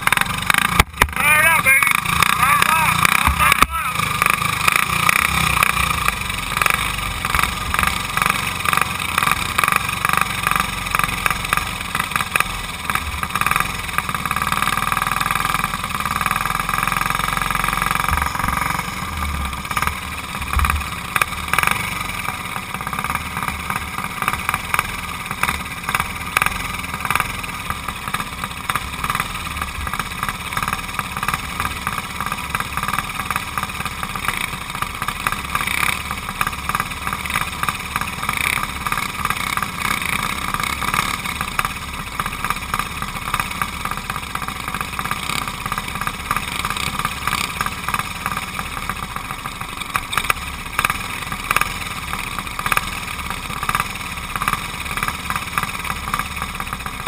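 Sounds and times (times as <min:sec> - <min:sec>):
kart engine idling: 0:00.0 - 0:57.0.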